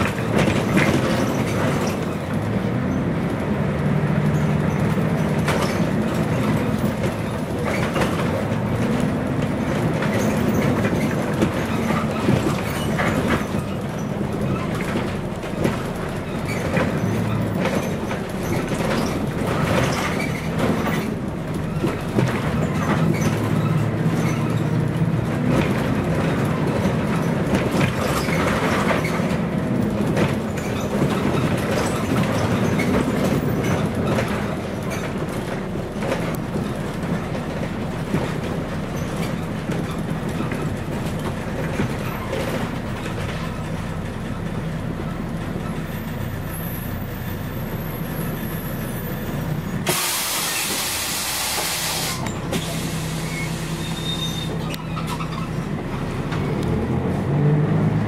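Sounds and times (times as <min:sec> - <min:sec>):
bus body rattles: 0:00.0 - 0:58.0
bus diesel engine running: 0:00.0 - 0:58.0.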